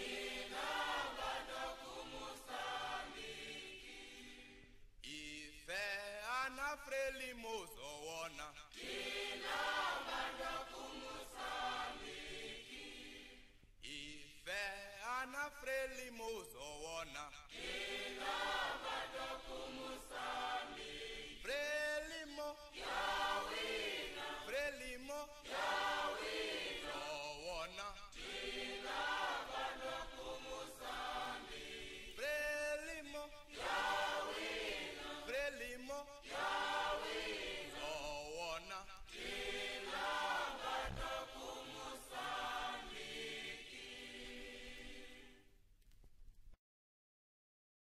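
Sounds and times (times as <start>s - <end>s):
choir singing: 0.0s - 14.7s, 15.6s - 45.5s.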